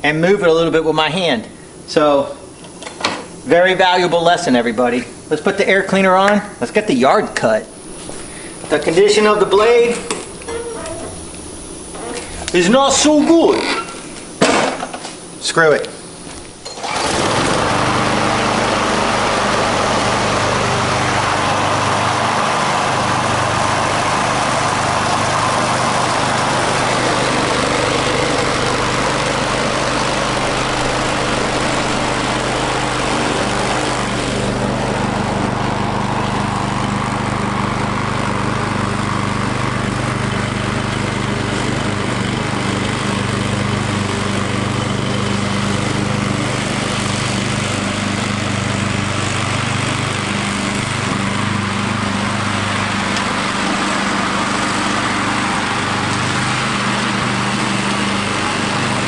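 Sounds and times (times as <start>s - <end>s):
lawn mower engine running: 7.6s - 59.0s.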